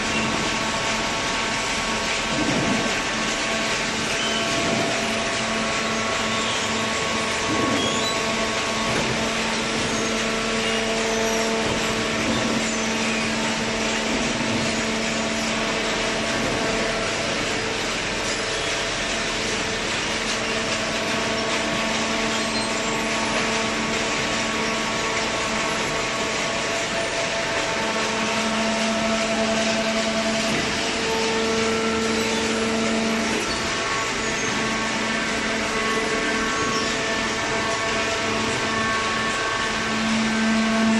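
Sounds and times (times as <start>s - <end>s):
hydraulic baler whirring: 0.0s - 40.9s.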